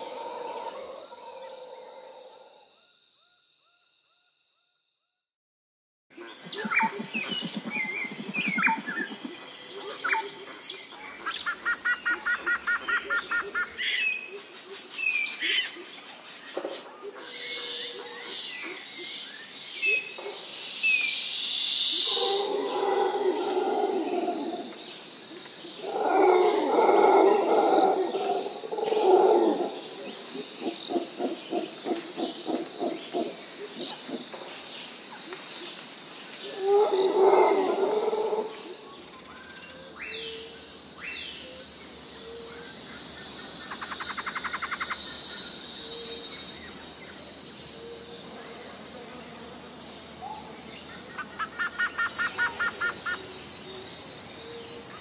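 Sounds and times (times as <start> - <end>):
high insect hiss: 0.0 - 5.2, 6.2 - 55.0
birds chirping and trilling: 6.2 - 55.0.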